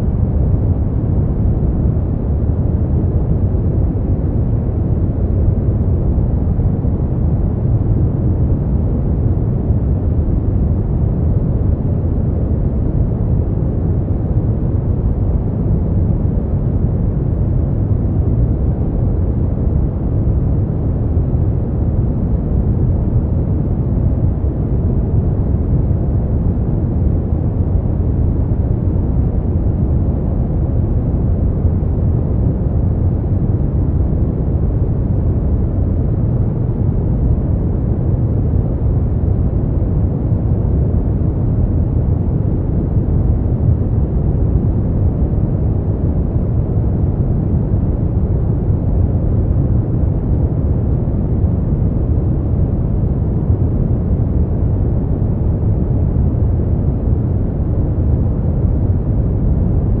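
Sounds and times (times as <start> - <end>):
deep muffled rumble noise: 0.0 - 60.0.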